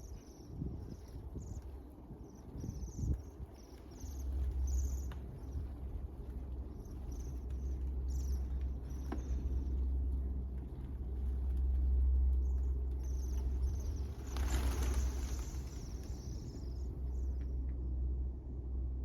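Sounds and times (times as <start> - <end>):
small birds chirping: 0.0 - 17.6
steady low rumble: 0.0 - 19.0.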